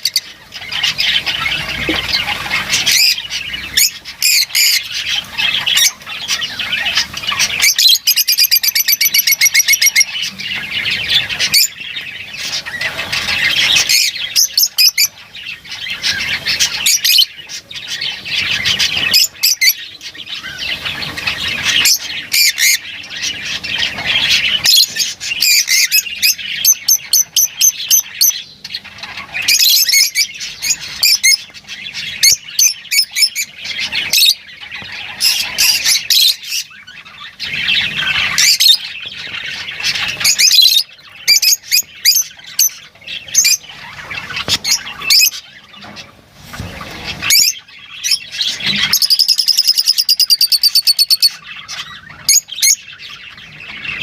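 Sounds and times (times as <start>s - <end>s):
lovebirds chattering and squawking: 0.0s - 54.0s.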